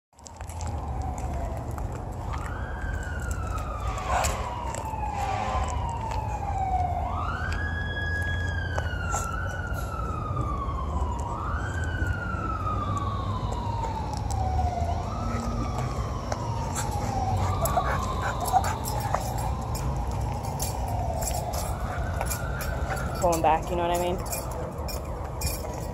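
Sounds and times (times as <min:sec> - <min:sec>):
emergency siren wailing: 0:00.2 - 0:25.9.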